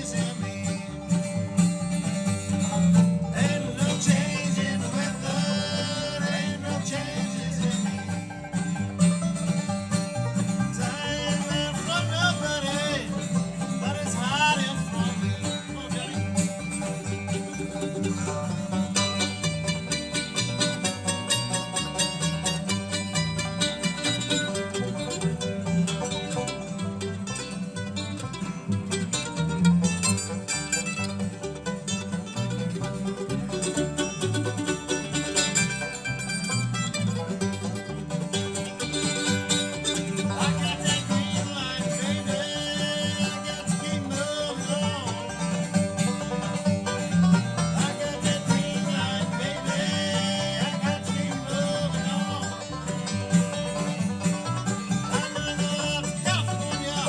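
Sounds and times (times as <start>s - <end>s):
bluegrass band playing: 0.0s - 57.0s.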